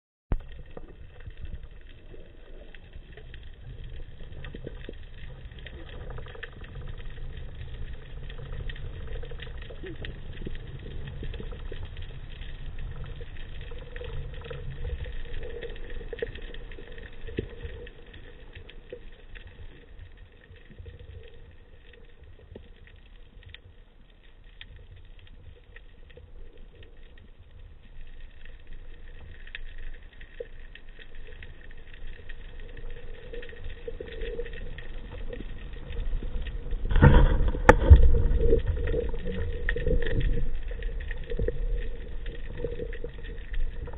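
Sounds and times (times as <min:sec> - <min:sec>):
faint clicks: 0:00.3 - 0:43.9
underwater water rumble: 0:00.3 - 0:43.9.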